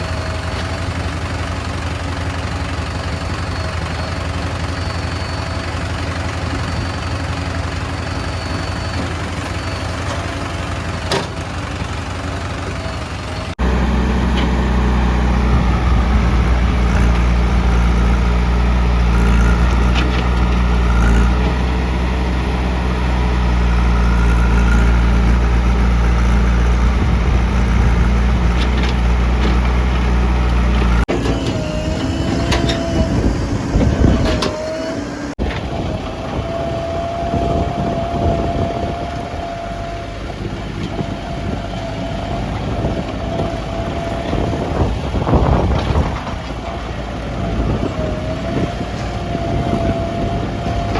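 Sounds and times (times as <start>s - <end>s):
heavy diesel machinery engines: 0.0s - 50.9s.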